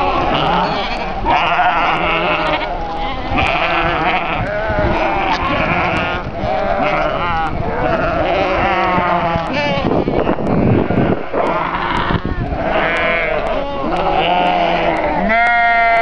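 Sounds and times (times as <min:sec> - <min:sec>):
sheep bleating: 0:00.0 - 0:16.0.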